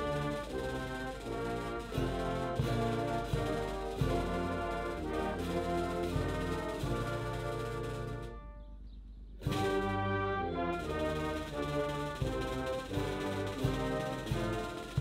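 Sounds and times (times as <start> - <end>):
wind band playing: 0.0 - 8.8, 9.4 - 15.0.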